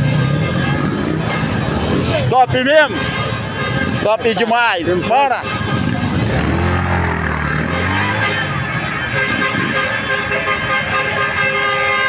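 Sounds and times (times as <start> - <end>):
motorcycle engines running: 0.0 - 4.0, 5.0 - 11.4
vehicle horns sounding: 0.0 - 12.0.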